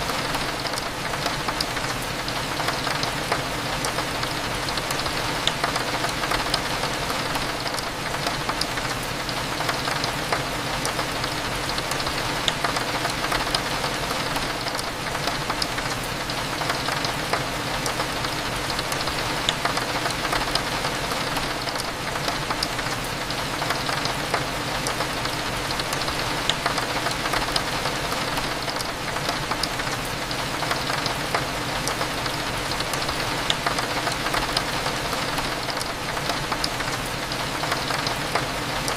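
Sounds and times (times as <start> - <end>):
rain ticking on window glass: 0.0 - 38.9.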